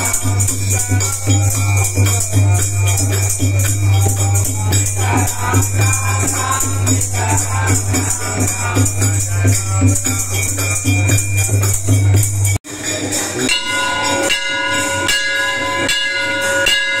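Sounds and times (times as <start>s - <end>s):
bell ringing: 0.0s - 17.0s
hand drum rhythm: 0.0s - 17.0s
jingling percussion: 0.0s - 17.0s.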